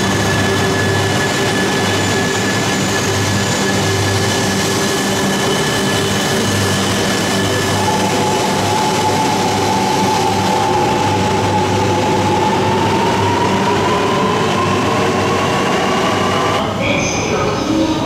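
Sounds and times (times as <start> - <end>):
train motor whine rising: 0.0 - 16.6.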